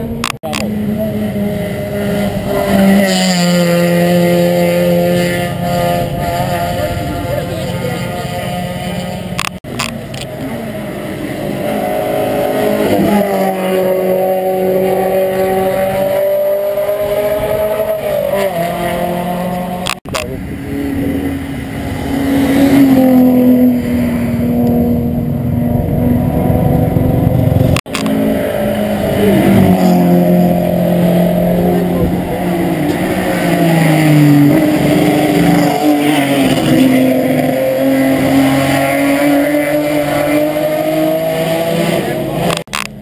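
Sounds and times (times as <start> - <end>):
race car engines revving: 0.0 - 43.0.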